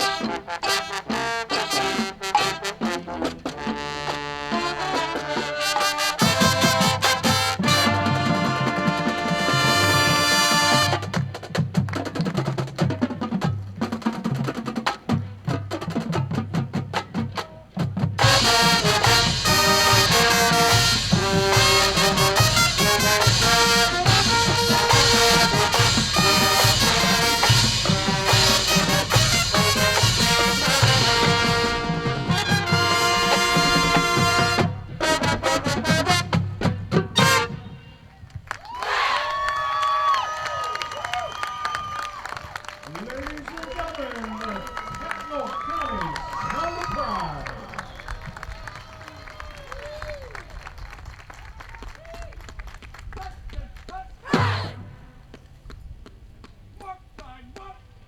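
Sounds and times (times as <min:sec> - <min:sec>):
marching band playing: 0:00.0 - 0:39.1, 0:41.0 - 0:51.3, 0:54.2 - 0:55.4.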